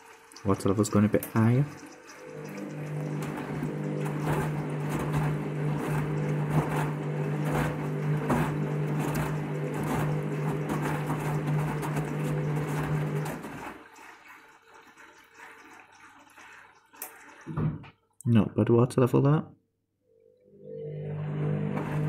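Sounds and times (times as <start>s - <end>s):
water rushing into washing machine: 0.0s - 17.9s, 20.4s - 22.0s.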